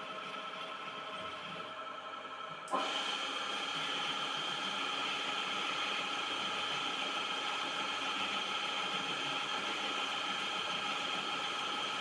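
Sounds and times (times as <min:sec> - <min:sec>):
metal lathe running: 0:02.2 - 0:12.0.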